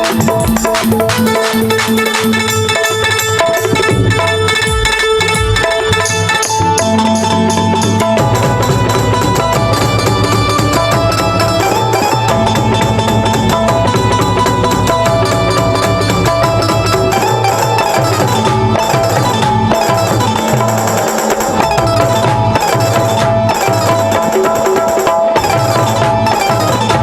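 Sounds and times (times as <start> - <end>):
hand percussion: 0.0 - 27.0
sustained instrumental melody: 0.0 - 27.0.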